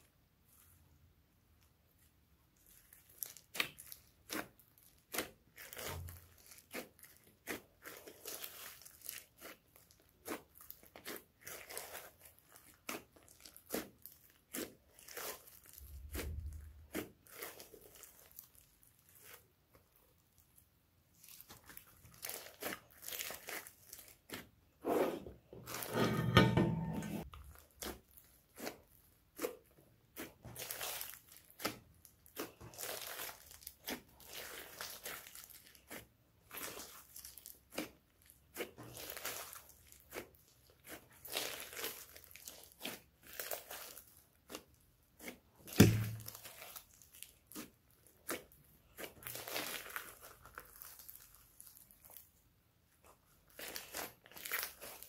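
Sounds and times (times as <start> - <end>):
hands squishing slime: 1.5 - 25.8, 27.2 - 55.0.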